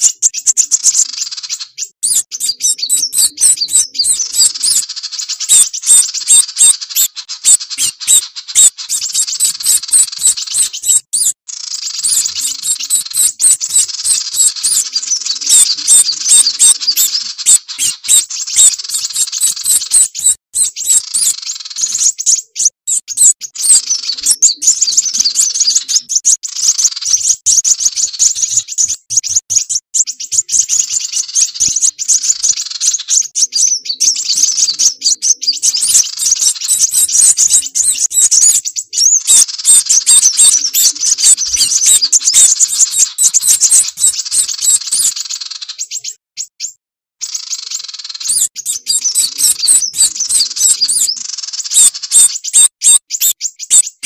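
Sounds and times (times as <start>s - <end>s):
high bird chirps and twitters: 0.0s - 54.0s.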